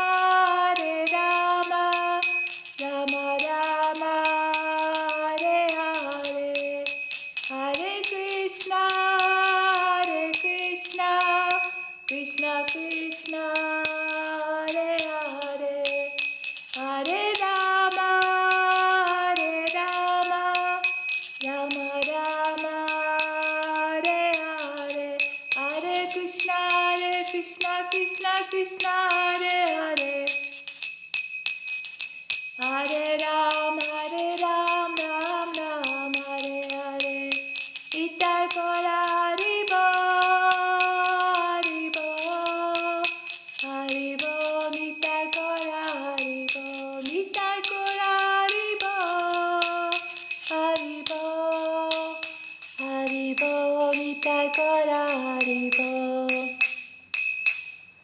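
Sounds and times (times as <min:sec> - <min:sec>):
devotional singing melody: 0:00.0 - 0:30.7, 0:32.6 - 0:56.6
hand cymbals ringing: 0:00.0 - 0:58.0.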